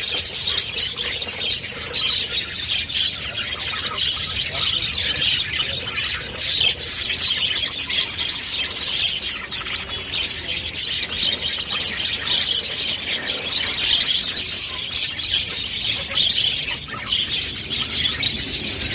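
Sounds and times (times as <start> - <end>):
flock of small birds chirping: 0.0 - 18.9.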